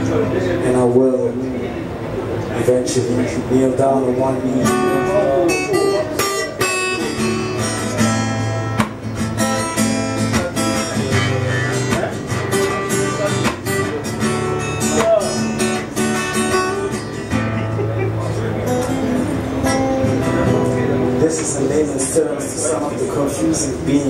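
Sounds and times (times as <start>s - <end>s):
acoustic guitar strummed: 3.7s - 24.0s.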